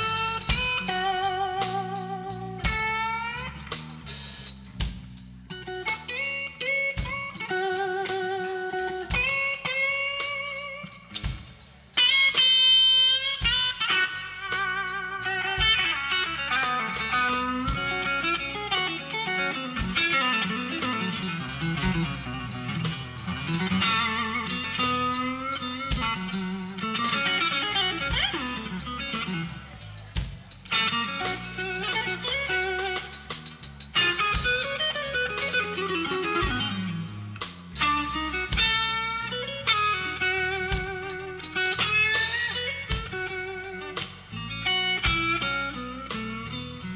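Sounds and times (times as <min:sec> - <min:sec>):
electric guitar solo: 0:00.0 - 0:04.0, 0:05.5 - 0:46.9
blues band playing: 0:00.0 - 0:46.9.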